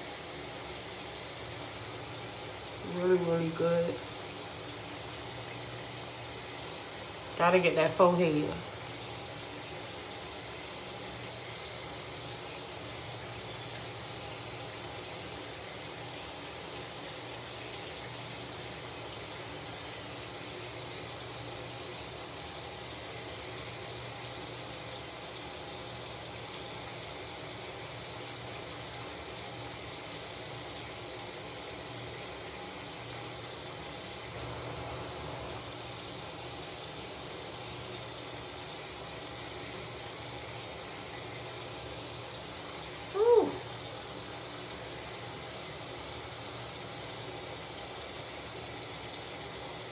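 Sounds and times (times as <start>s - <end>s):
water running from tap: 0.0s - 49.9s.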